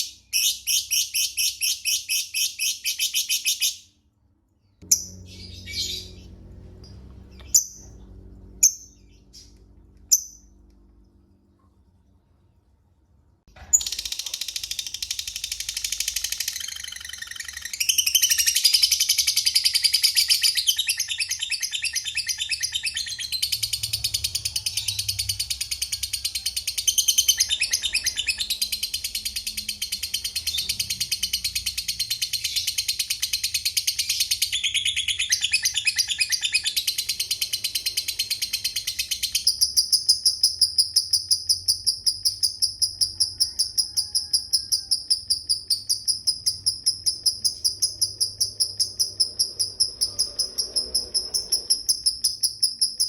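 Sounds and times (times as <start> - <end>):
bird high chirping: 0.0 - 3.9, 4.6 - 10.6, 13.6 - 53.0.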